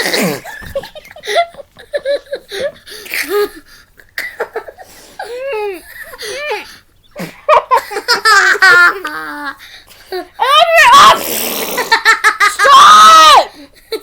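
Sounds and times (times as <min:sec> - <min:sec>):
children laughing: 0:00.0 - 0:09.6, 0:11.7 - 0:14.0.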